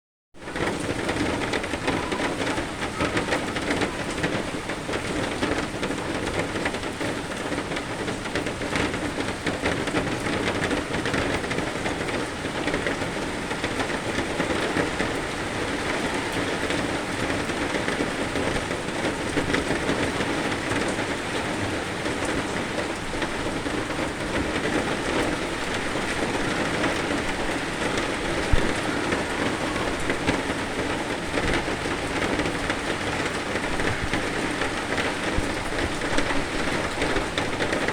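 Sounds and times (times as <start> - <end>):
heavy rain falling: 0.4 - 37.9.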